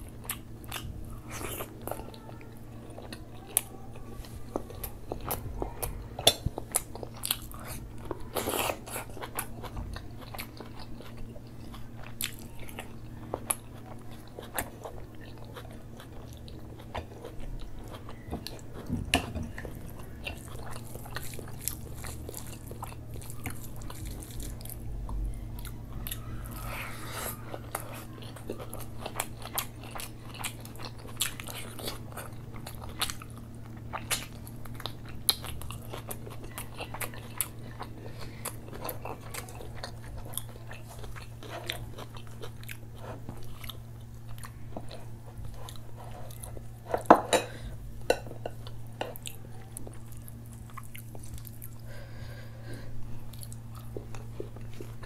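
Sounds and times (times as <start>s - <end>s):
low steady hum: 0.0s - 55.0s
chewing and mouth smacks: 4.5s - 47.1s, 48.0s - 51.8s, 53.3s - 55.0s.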